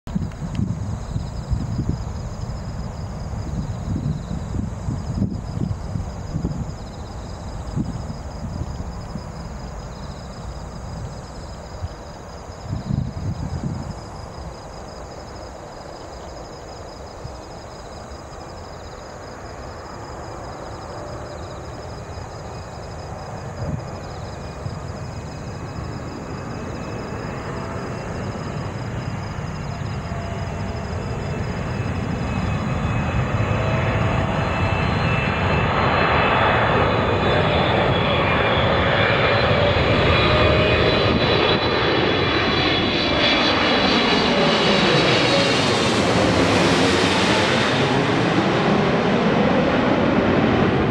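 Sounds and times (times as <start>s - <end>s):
airliner jet noise overhead: 0.1s - 50.9s.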